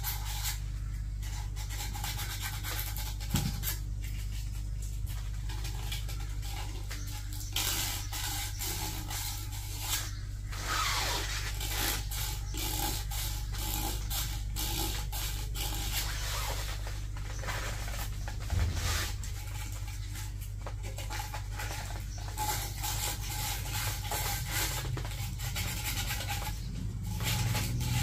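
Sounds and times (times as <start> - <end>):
scraping and clicking of drain parts: 0.0 - 28.0
steady low hum: 0.0 - 28.0.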